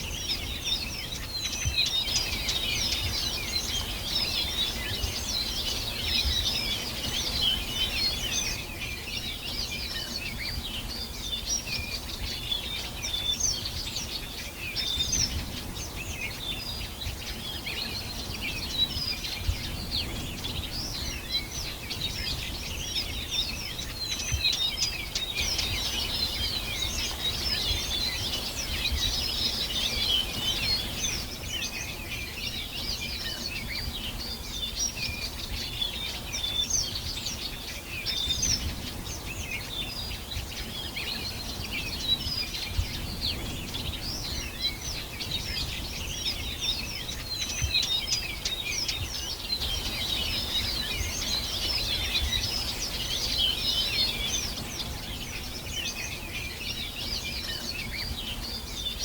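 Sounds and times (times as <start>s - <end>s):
birds chorus chirping and trilling: 0.0s - 59.0s.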